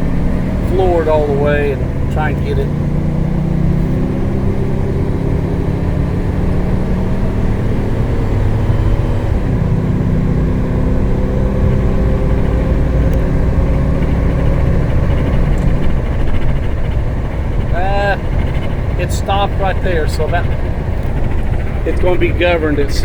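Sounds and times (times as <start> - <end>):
truck engine at full throttle: 0.0 - 23.0.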